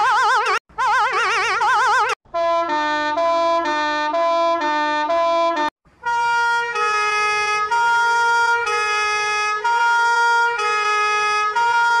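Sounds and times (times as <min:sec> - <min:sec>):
two-tone ambulance siren: 0:00.0 - 0:12.0.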